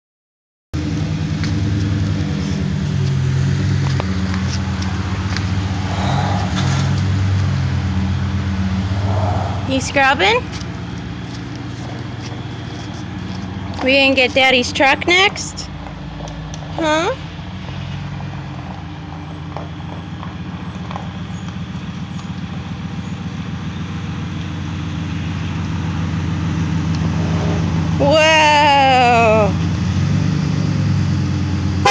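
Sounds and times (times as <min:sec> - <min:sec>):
engine running steadily: 0:00.8 - 0:31.9.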